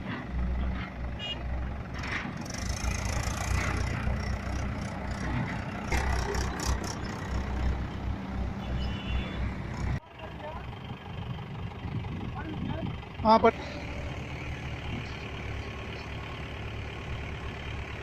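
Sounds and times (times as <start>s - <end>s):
tractor diesel engine throbbing: 0.0s - 18.0s.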